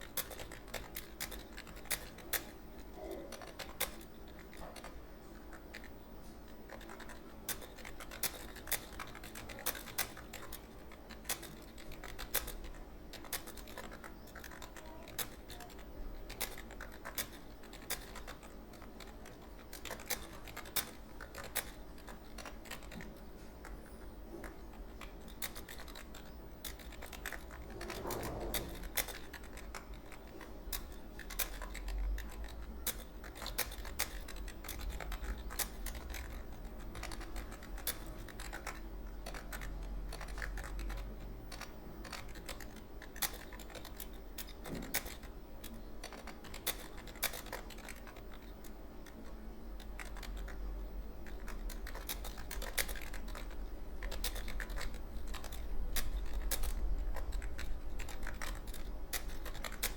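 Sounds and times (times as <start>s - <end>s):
computer keyboard typing: 0.0s - 59.9s.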